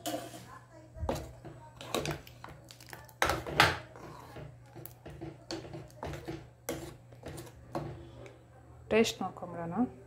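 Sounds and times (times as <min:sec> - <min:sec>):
ladle knocking and scraping pot: 0:00.0 - 0:08.2.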